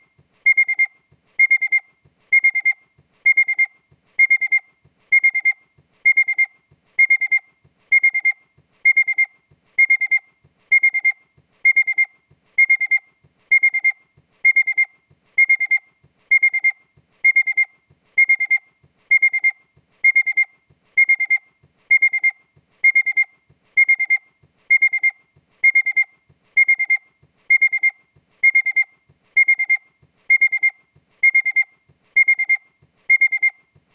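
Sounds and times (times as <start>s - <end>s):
car warning beeper: 0.0s - 33.7s.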